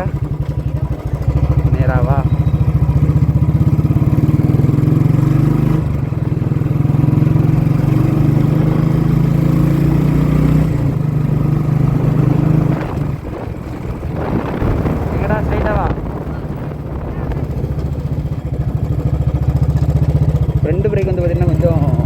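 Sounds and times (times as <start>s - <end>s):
motorcycle engine thumping: 0.0s - 22.0s.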